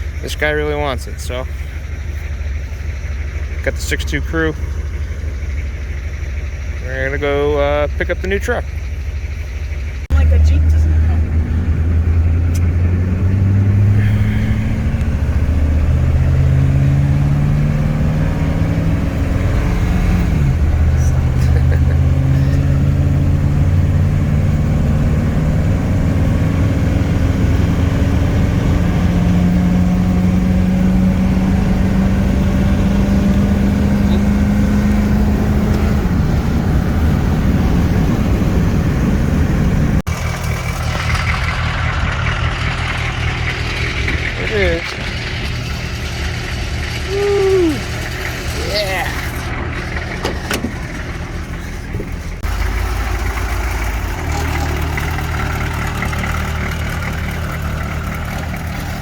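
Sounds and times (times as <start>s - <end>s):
diesel truck engine pulling: 0.0s - 59.0s.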